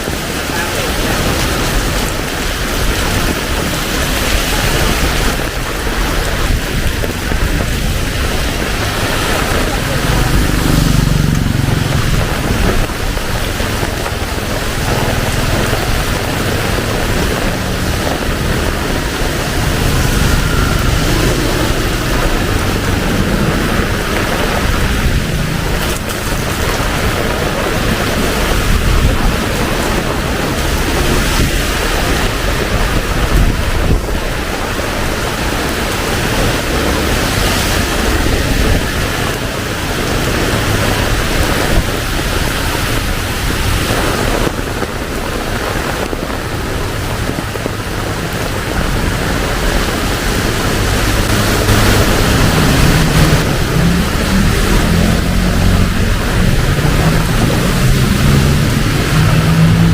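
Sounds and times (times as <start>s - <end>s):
heavy rain pouring: 0.0s - 59.9s
passing vehicle engine rumble: 0.0s - 59.9s.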